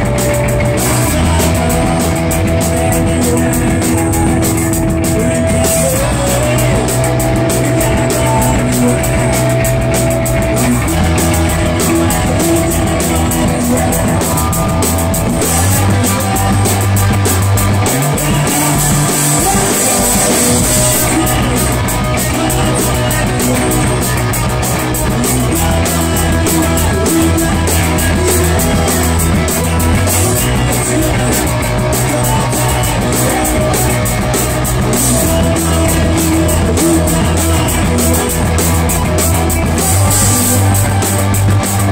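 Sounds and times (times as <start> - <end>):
drum kit: 0.0 - 41.9
electric bass: 0.0 - 41.9
electric guitar: 0.0 - 41.9
person singing: 0.0 - 41.9.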